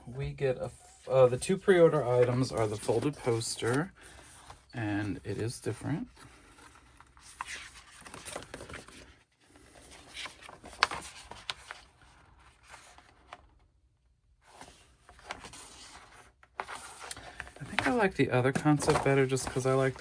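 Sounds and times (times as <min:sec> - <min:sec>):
paper rustling and crinkling: 0:00.6 - 0:13.6, 0:14.5 - 0:20.0.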